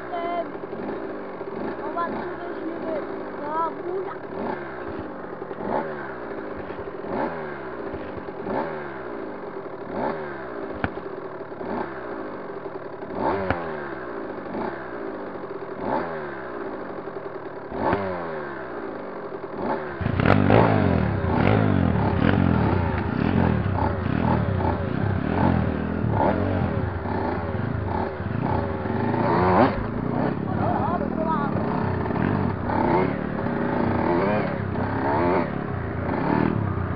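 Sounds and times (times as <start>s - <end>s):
dirt bike engine revving: 0.0s - 36.9s
dirt bike engines idling: 0.0s - 36.9s.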